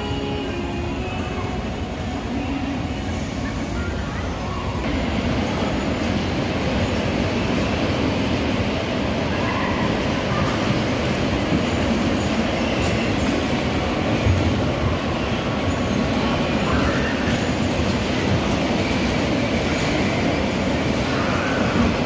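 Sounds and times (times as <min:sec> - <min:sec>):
bumper cars rumbling: 0:00.0 - 0:22.0.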